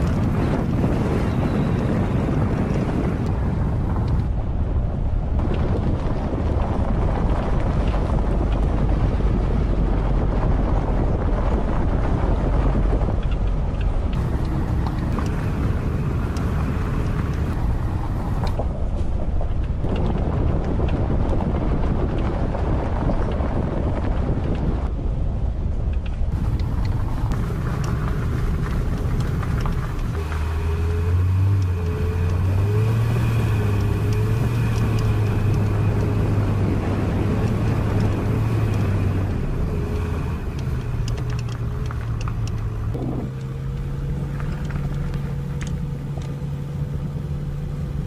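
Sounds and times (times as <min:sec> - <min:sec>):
vehicle rumbling over gravel: 0:00.0 - 0:48.0
wind buffeting microphone: 0:00.0 - 0:48.0.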